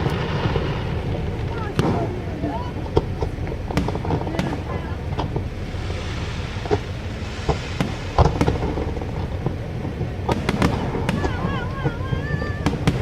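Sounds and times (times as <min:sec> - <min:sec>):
fireworks bangs and crackles: 0:00.0 - 0:13.0
fireworks popping: 0:00.0 - 0:13.0
fireworks rumble: 0:00.0 - 0:13.0.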